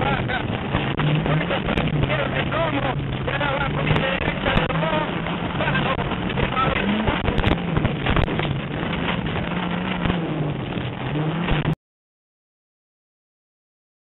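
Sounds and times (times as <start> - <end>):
rally car engine revving: 0.0 - 11.8
tyres rumbling on gravel: 0.0 - 11.8
wind noise on microphone: 0.0 - 11.8.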